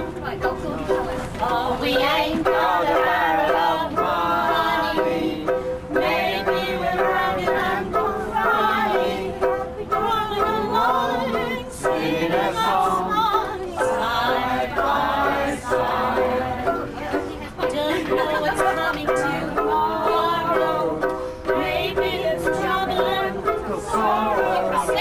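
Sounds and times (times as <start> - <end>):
person singing: 0.0 - 25.0
ukulele strumming: 0.0 - 25.0.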